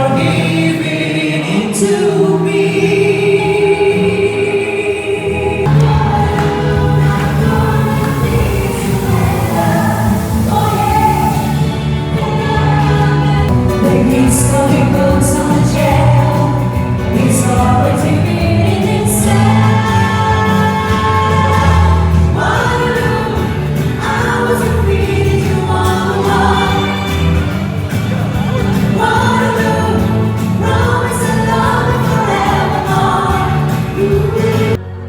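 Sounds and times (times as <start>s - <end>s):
choir singing with accompaniment: 0.0s - 35.0s.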